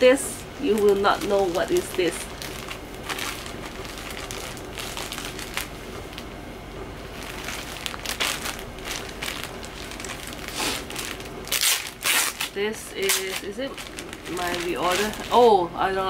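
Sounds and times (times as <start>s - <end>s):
plastic packaging crinkling: 0.6s - 6.4s, 7.1s - 16.0s.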